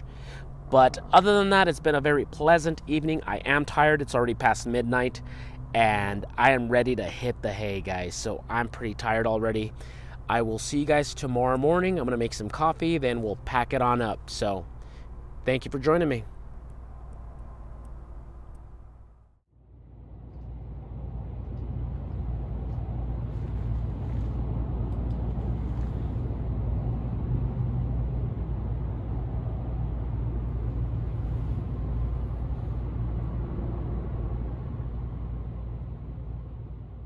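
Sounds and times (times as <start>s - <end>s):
low rumble of motor vehicles: 0.0s - 37.0s.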